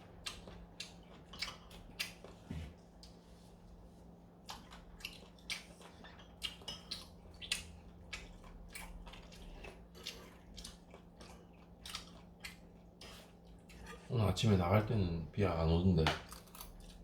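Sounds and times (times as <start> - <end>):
person chewing and smacking: 0.0 - 3.4, 4.3 - 14.1, 16.0 - 17.0.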